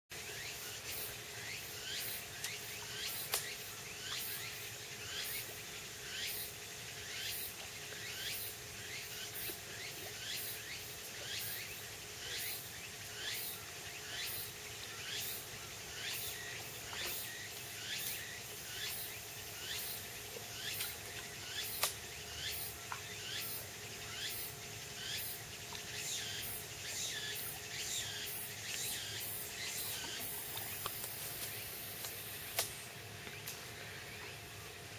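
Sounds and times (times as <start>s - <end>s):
insects chirping: 0.1s - 34.9s.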